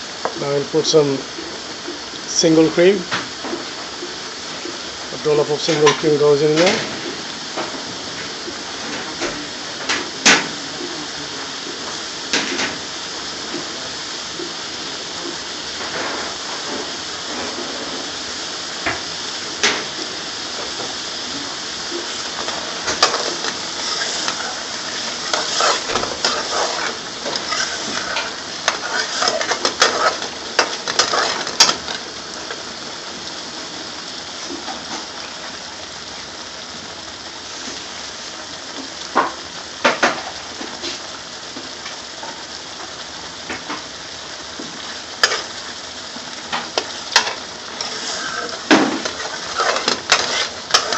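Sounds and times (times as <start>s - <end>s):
sauce simmering and sizzling: 0.0s - 50.9s.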